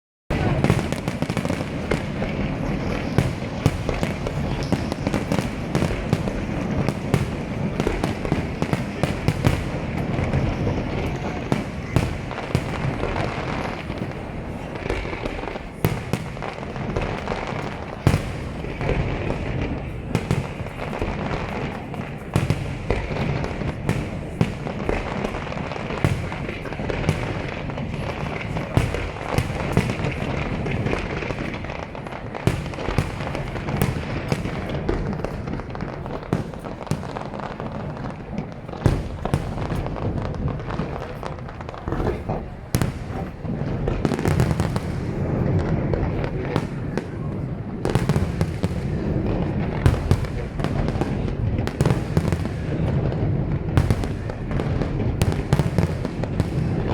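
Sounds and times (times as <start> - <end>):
fireworks bangs and pops: 0.3 - 56.9.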